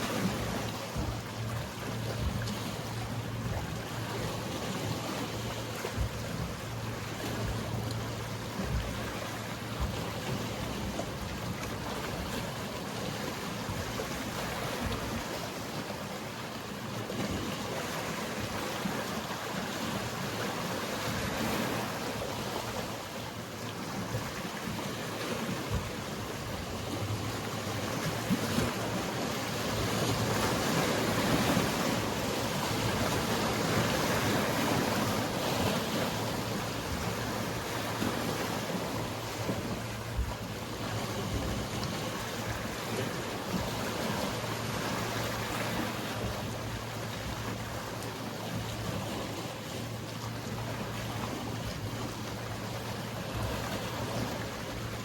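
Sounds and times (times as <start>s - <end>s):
boat engine hum: 0.0s - 55.0s
sea waves washing on shore: 0.0s - 55.0s.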